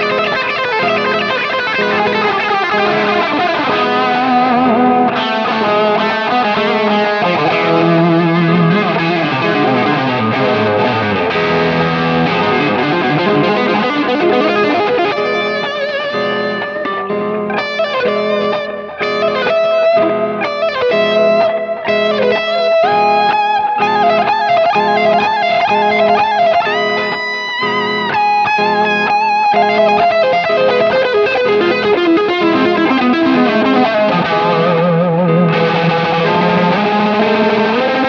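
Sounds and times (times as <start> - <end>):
electric guitar lead line: 0.0 - 38.0
looped rhythm guitar: 0.0 - 38.0.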